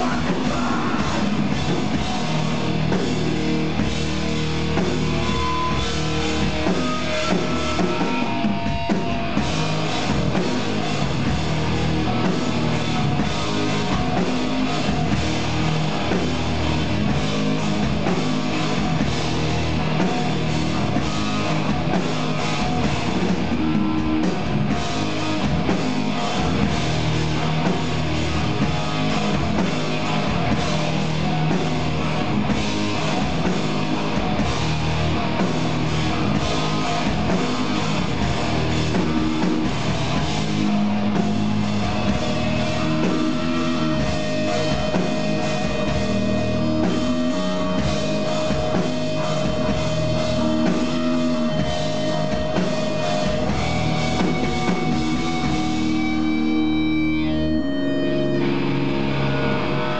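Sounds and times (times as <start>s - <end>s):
punk band playing live: 0.0s - 59.9s.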